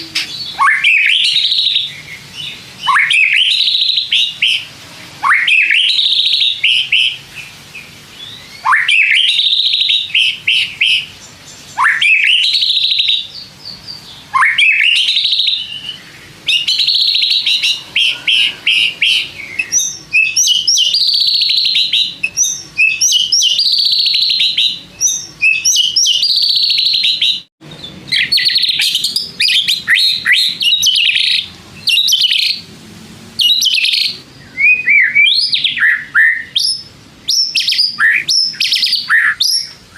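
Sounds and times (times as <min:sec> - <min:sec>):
bird singing whistles and trills: 0:00.0 - 0:32.6, 0:33.4 - 0:39.9.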